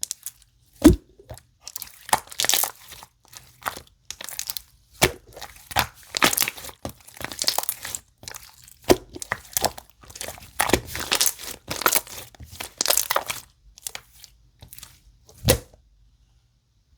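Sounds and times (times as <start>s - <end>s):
slime crackling and popping: 0.0s - 15.6s.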